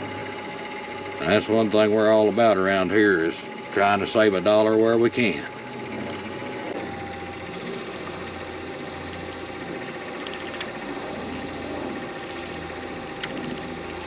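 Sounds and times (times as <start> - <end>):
wood lathe motor humming: 0.0 - 14.0.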